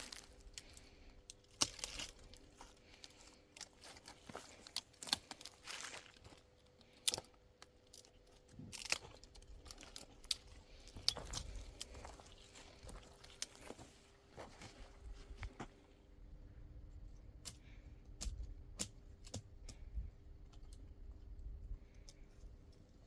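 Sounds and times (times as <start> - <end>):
clicks crackles and rustling: 0.0 - 15.8, 17.4 - 23.0
faint steady hum: 0.0 - 23.0.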